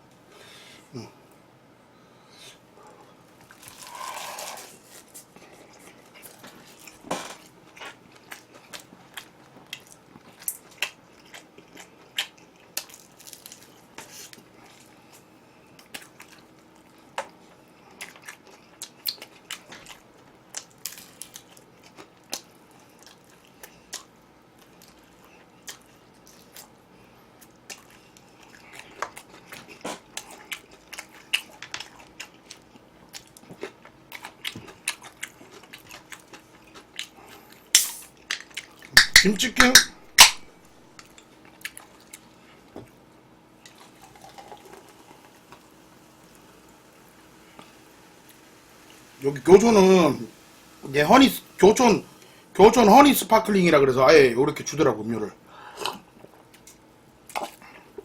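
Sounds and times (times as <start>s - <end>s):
person chewing and crunching food: 2.9s - 49.6s, 55.6s - 58.0s.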